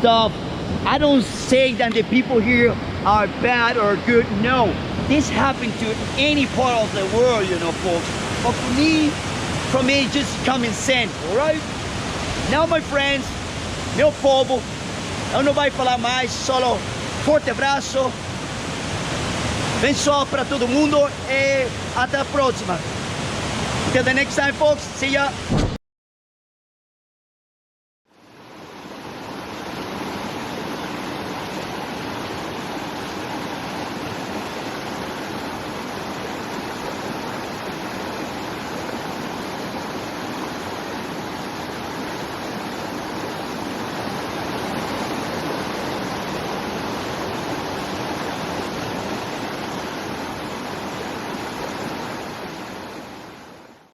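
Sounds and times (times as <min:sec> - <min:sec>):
waterfall rushing: 0:00.0 - 0:25.4, 0:28.4 - 0:53.9.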